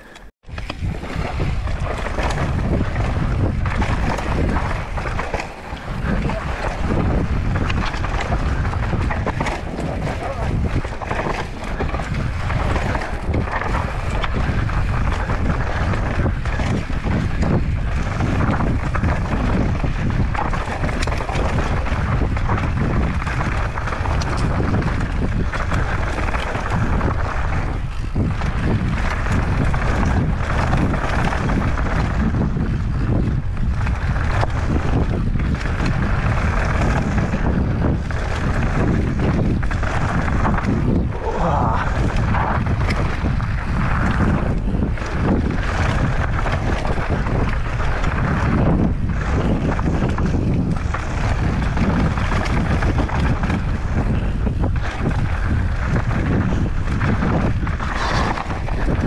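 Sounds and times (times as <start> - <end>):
bike knocks and rattles: 0.0 - 41.1, 41.8 - 59.0
bike tyres rushing: 0.0 - 59.0
wind buffeting microphone: 0.0 - 59.0.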